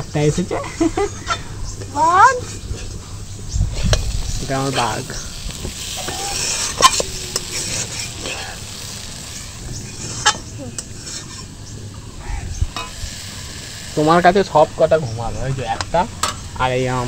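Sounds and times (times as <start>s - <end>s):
vegetables sizzling in a pan: 0.2s - 17.0s.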